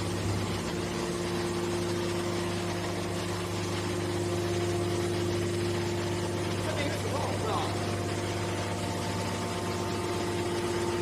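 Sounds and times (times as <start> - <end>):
electric motor and hydraulic pump humming: 0.0 - 11.0.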